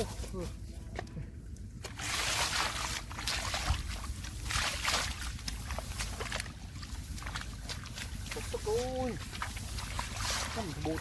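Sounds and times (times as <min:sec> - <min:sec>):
splashing in muddy water: 0:01.8 - 0:11.0.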